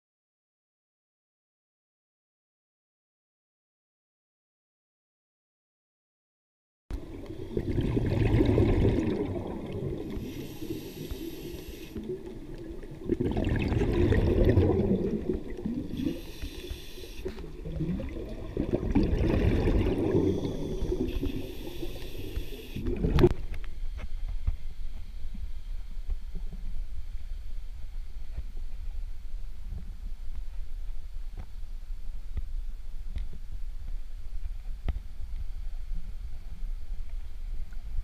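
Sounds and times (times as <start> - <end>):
muffled water sloshing and bubbling: 6.9 - 38.0.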